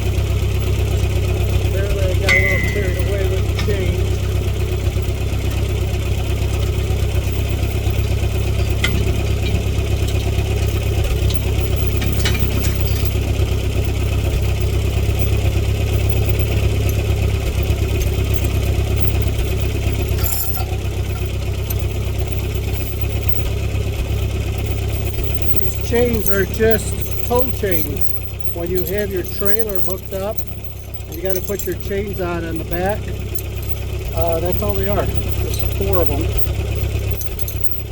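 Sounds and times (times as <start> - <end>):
tractor engine idling: 0.0 - 37.9.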